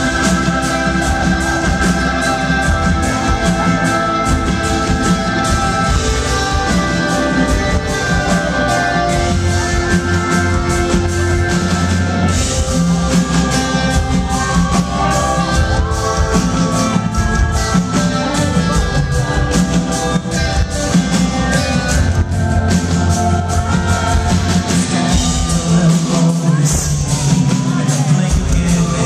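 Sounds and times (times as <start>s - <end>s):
drum kit beat: 0.0s - 29.0s
guitars and keyboards: 0.0s - 29.0s
person singing: 0.0s - 29.0s.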